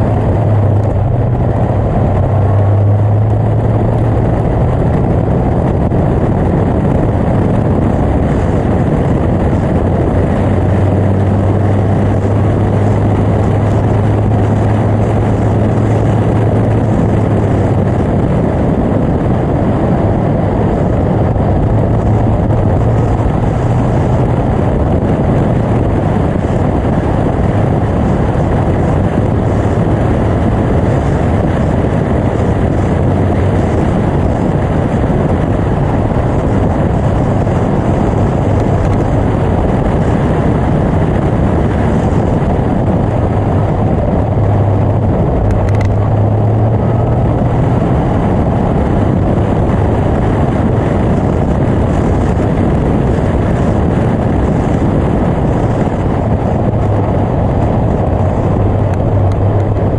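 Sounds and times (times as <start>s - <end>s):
car engine running hard: 0.0s - 59.9s
rush of wind: 0.0s - 59.9s.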